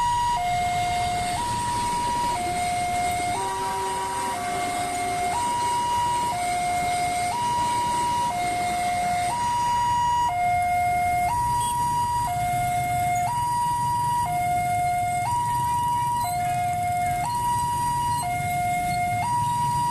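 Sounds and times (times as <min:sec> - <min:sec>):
level crossing two-tone siren: 0:00.0 - 0:19.9.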